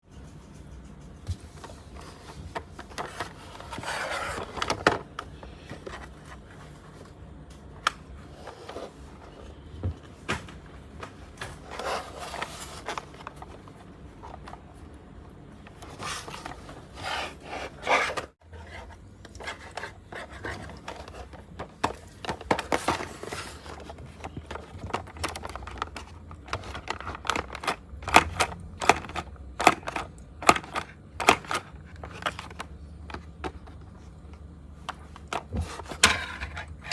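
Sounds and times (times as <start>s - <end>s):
packaging rustling and scraping: 1.3s - 7.3s, 8.2s - 14.9s, 15.6s - 36.9s.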